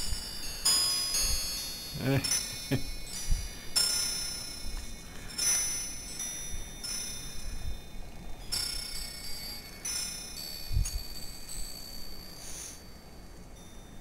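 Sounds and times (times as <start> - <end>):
low wind rumble on microphone: 0.0 - 1.9, 2.5 - 14.0
wind chimes ringing: 0.0 - 14.0.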